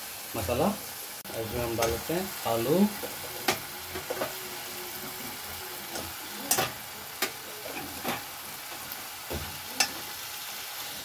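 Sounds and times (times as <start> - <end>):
paste sizzling in a pan: 0.0 - 11.0.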